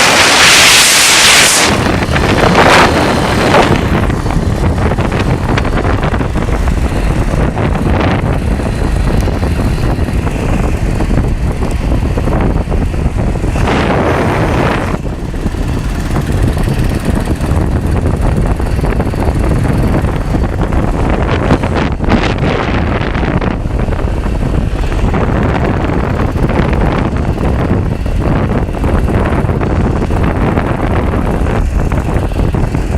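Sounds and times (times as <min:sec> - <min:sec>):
engine running: 0:00.0 - 0:32.9.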